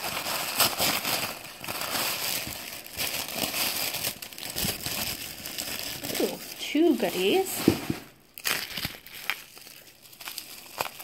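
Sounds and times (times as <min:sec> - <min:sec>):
tissue paper crinkling: 0:00.0 - 0:11.0.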